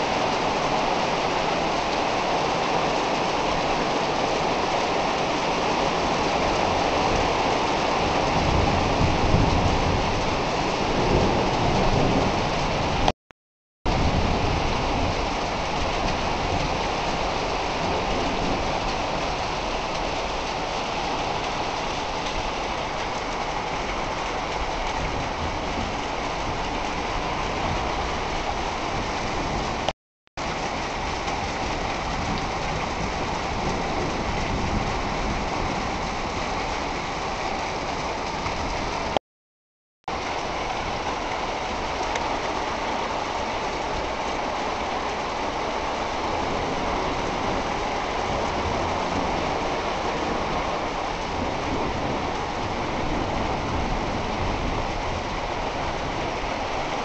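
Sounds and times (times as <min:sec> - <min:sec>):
heavy rain pouring: 0:00.0 - 0:13.1, 0:13.9 - 0:39.2, 0:40.1 - 0:57.0.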